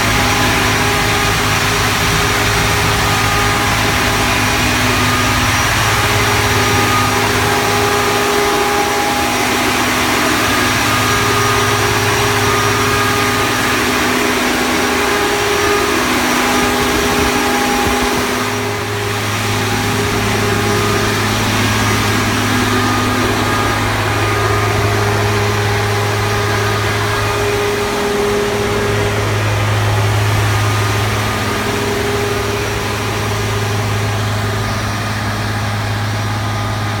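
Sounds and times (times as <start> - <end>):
diesel generator engine drone: 0.0 - 37.0.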